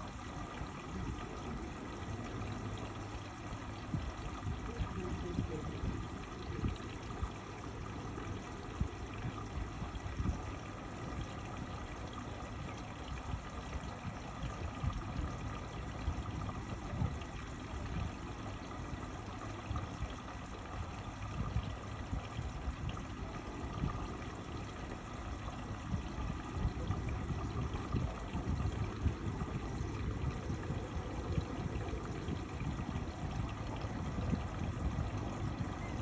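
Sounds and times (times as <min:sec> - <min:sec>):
water running into washing machine: 0:00.0 - 0:36.0.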